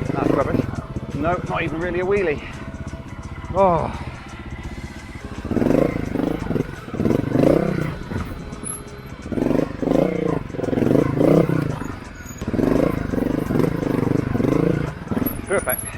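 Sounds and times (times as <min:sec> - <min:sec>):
motorcycle engine revving: 0:00.0 - 0:15.9.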